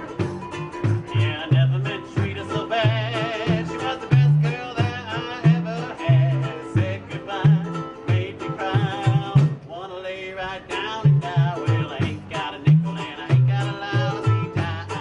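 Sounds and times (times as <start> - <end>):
banjo picking: 0.0 - 9.7, 10.5 - 15.0
bucket bass plucking low notes: 0.0 - 9.8, 10.6 - 15.0.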